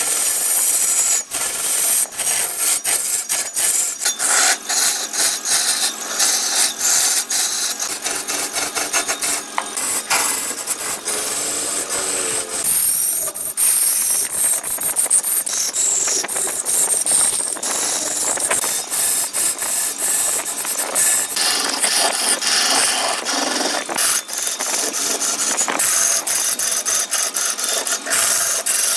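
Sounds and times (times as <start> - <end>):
lathe tool scraping wood: 0.0 - 28.9
tool chatter hum: 0.0 - 28.9.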